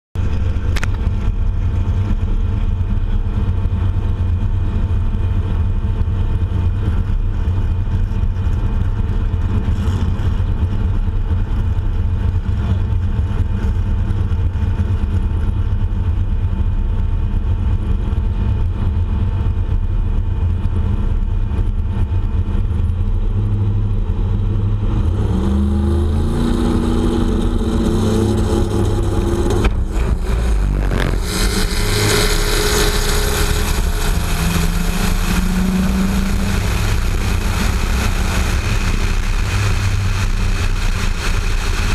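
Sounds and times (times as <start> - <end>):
car engine idling: 0.2 - 41.9.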